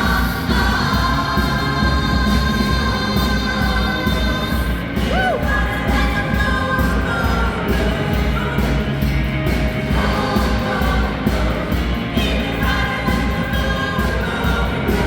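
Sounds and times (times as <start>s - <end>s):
band backing: 0.0s - 15.0s
choir singing pop-rock song: 0.0s - 15.0s
steady drum beat: 0.0s - 15.0s.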